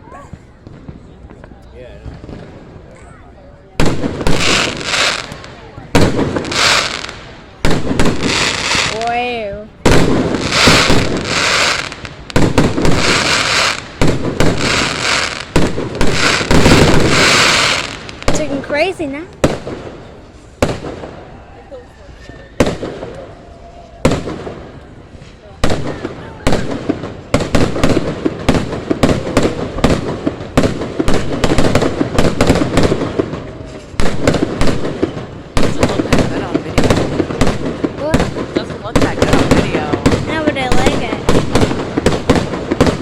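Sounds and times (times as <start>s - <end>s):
fireworks bangs: 0.0s - 43.0s
fireworks crackling: 0.0s - 43.0s.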